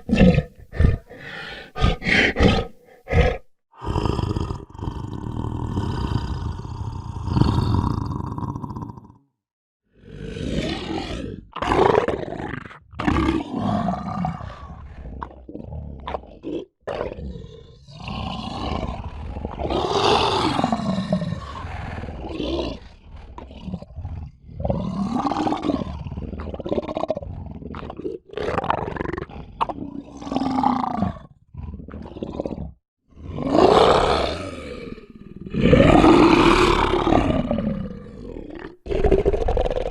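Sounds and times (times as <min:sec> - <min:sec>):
lion roaring and growling: 0:00.0 - 0:09.2, 0:10.0 - 0:39.9.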